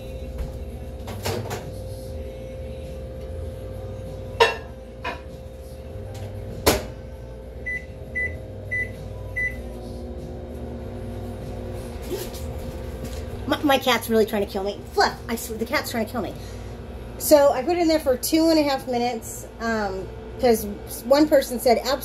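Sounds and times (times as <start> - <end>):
microwave humming: 0.0 - 22.0.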